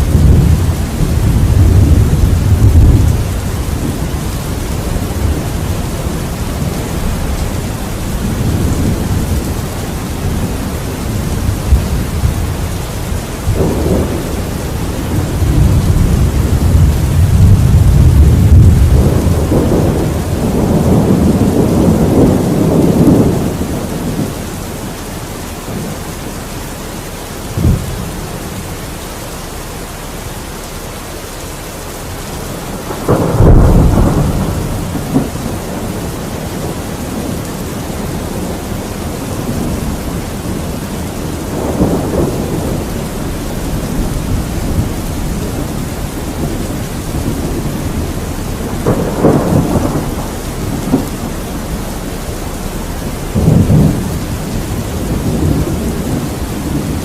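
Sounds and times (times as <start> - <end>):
sharp thunder crack: 0.0 - 24.3, 27.5 - 28.1, 32.6 - 57.0
rolling thunder: 0.0 - 30.4, 31.8 - 57.0
rain falling: 0.0 - 57.0.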